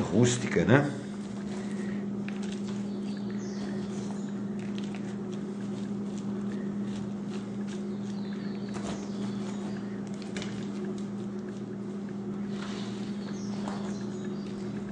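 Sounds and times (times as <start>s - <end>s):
steady low hum: 0.0s - 14.9s
crackles and rustles of soil: 1.2s - 14.9s.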